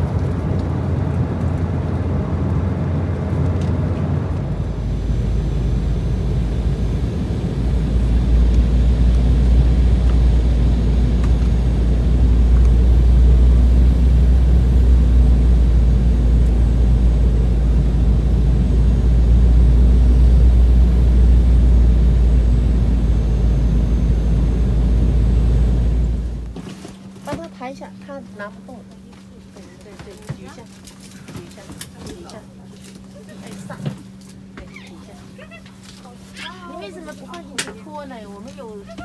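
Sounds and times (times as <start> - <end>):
jet engine and airflow rumble: 0.0 - 39.0.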